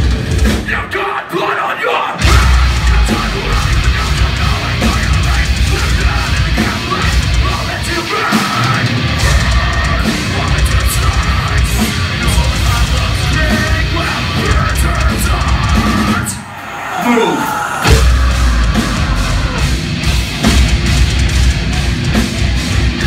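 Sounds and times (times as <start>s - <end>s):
metal band playing live: 0.0s - 23.0s.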